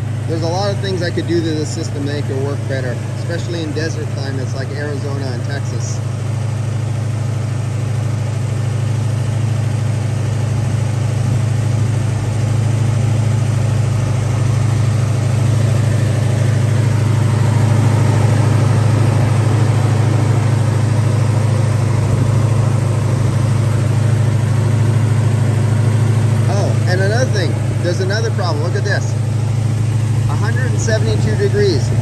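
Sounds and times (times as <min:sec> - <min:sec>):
air-conditioning running: 0:00.0 - 0:32.0
car engine idling: 0:00.0 - 0:32.0.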